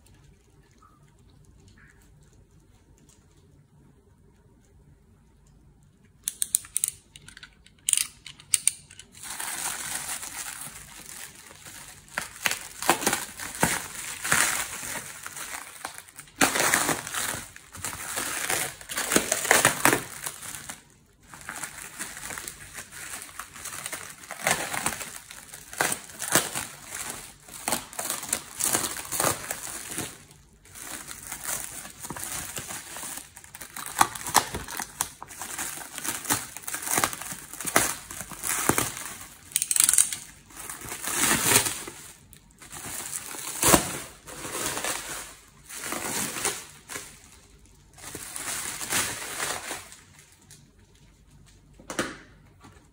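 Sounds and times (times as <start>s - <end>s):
plastic stretch wrap crinkling: 9.0s - 51.7s.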